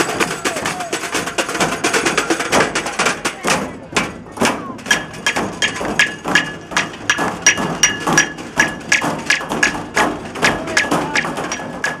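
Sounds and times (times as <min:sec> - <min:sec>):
hands drumming on metal container: 0:00.0 - 0:12.0.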